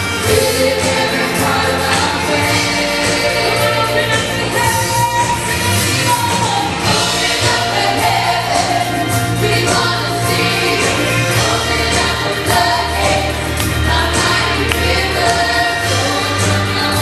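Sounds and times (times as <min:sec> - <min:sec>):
choir singing: 0:00.0 - 0:17.0
live band with bass and drums: 0:00.0 - 0:17.0.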